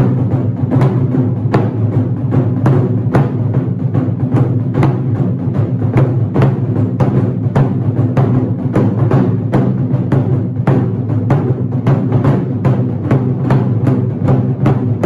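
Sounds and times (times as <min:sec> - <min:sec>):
heavy taiko drum strikes: 0:00.0 - 0:15.0.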